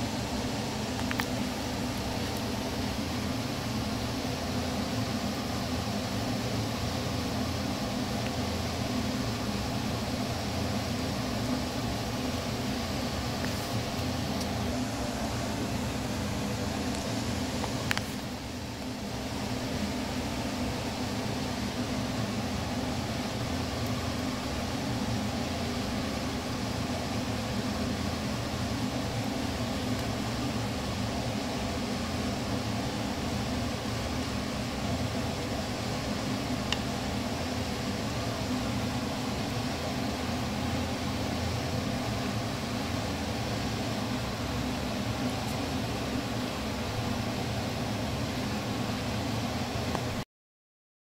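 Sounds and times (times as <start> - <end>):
fan humming: 0.0 - 50.2.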